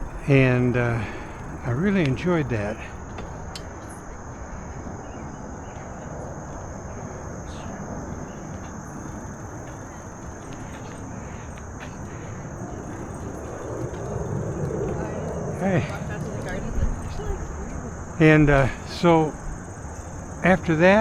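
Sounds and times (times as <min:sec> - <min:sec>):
wind rumble: 0:00.0 - 0:05.5, 0:08.8 - 0:21.0
bicycle tyre noise on trail: 0:00.0 - 0:05.6, 0:08.6 - 0:21.0
insects droning: 0:00.0 - 0:21.0.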